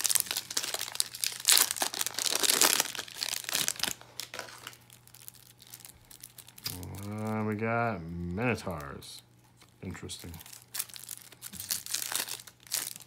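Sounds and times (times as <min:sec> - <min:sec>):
foil wrapper crinkling and tearing: 0:00.0 - 0:07.6, 0:08.6 - 0:13.0.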